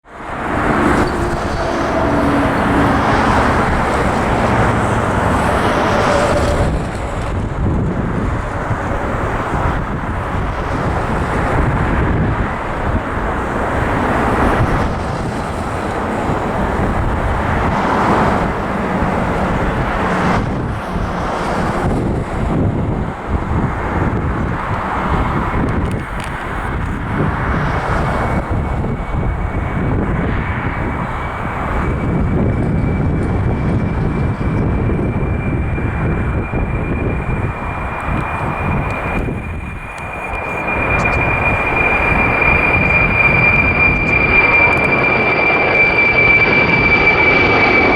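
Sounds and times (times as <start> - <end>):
jet engines running loud: 0.0 - 47.9
wind buffeting microphone: 0.0 - 47.9.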